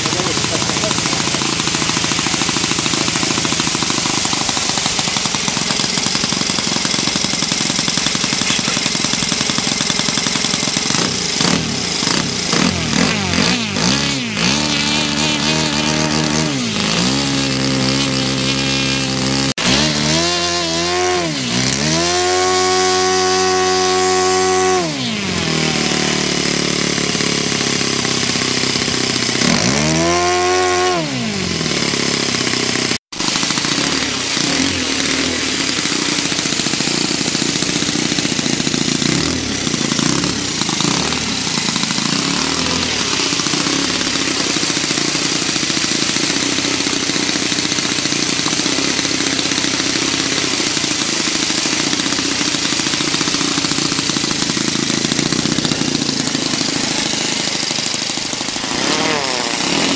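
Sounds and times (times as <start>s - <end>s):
model aircraft engine revving: 0.0s - 59.9s.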